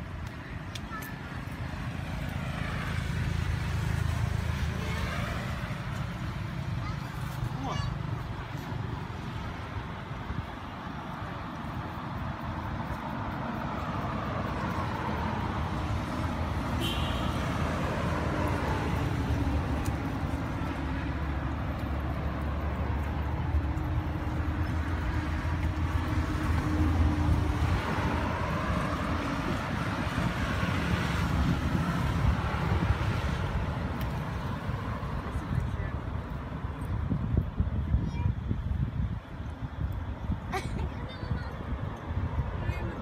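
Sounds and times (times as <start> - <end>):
vehicle engine rumbling: 0.0 - 43.0.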